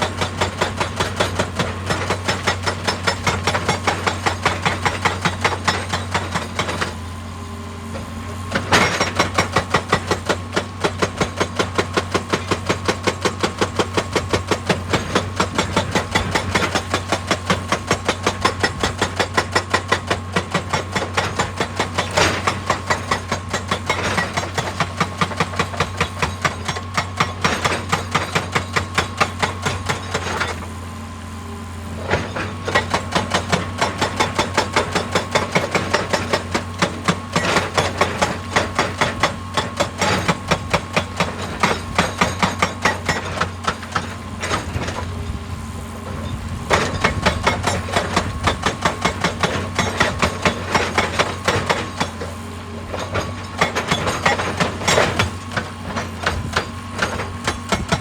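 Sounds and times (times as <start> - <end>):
hydraulic rock breaker hammering: 0.0 - 30.9, 31.9 - 58.0
excavator engine hum: 0.0 - 58.0.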